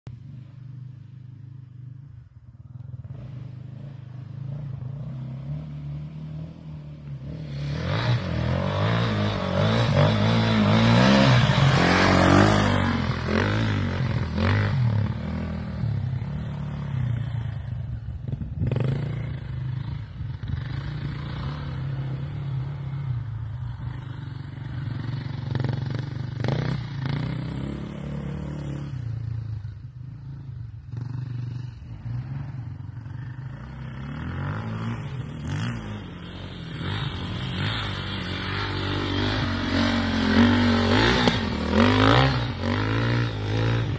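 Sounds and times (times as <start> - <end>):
motorcycle engine revving: 0.1 - 43.9.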